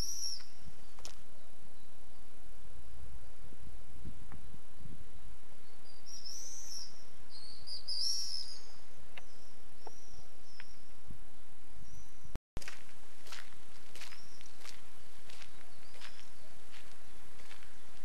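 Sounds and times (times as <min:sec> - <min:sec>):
small birds chirping: 0:00.0 - 0:02.4, 0:04.0 - 0:18.0.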